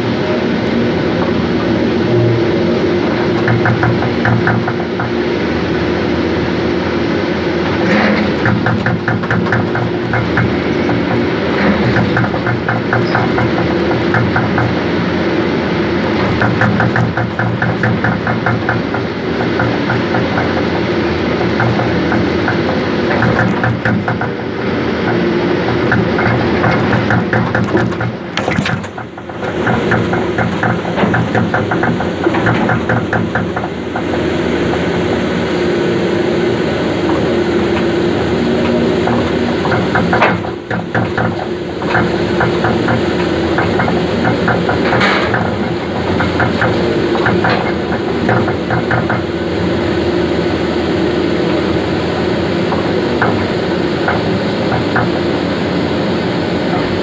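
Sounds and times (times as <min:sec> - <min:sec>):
heavy machine engine drone: 0:00.0 - 0:57.0.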